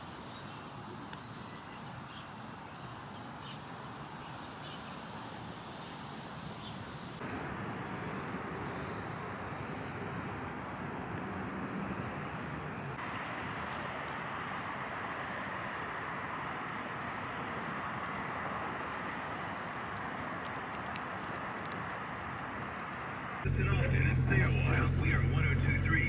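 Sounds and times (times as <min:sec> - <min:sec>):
distant traffic noise: 0:00.0 - 0:26.0.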